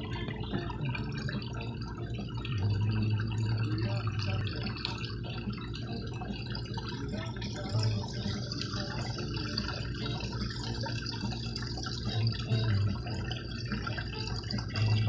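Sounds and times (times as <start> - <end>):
low steady hum: 0.0 - 15.0
water splashes and drips: 0.0 - 15.0.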